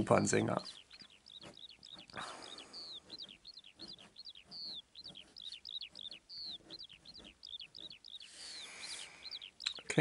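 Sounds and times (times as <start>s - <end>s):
bird chirping: 0.0s - 10.0s
pencil scratching on paper: 0.7s - 8.8s.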